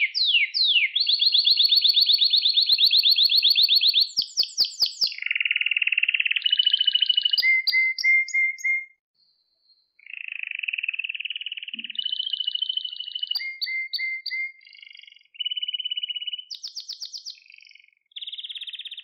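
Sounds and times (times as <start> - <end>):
canary singing: 0.0 - 8.9, 10.0 - 19.0.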